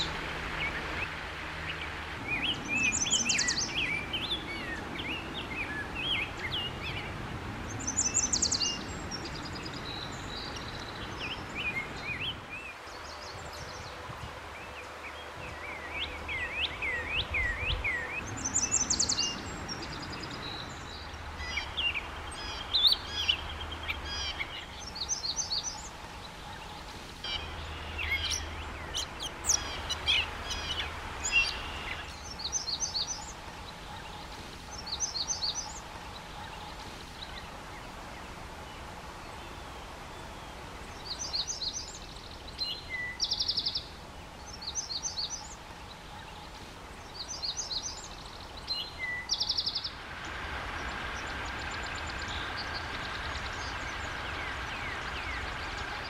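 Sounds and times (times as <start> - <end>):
low steady background rumble: 0.0 - 56.0
songbirds singing: 0.0 - 56.0.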